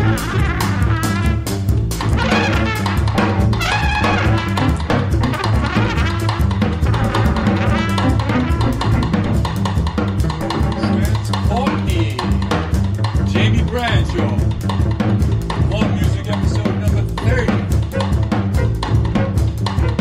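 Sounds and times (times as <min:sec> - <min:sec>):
bass: 0:00.0 - 0:20.0
drum kit: 0:00.0 - 0:20.0
jazz trumpet: 0:00.0 - 0:20.0.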